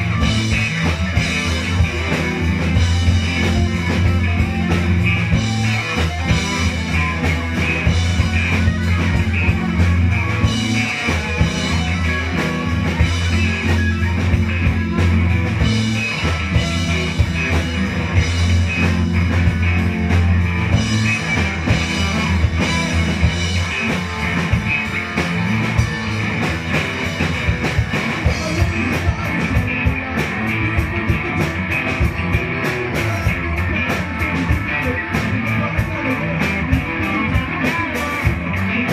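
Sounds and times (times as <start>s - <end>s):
drum kit: 0.0s - 38.9s
electric guitars: 0.0s - 38.9s
live band playing: 0.0s - 38.9s.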